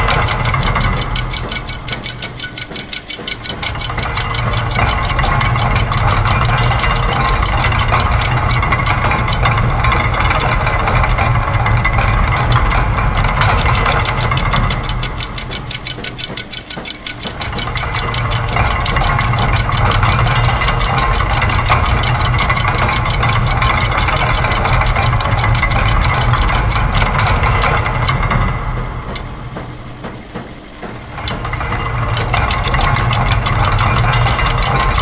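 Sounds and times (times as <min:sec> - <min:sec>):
fast mechanical ticking: 0:00.0 - 0:35.0
low machine hum: 0:00.0 - 0:35.0.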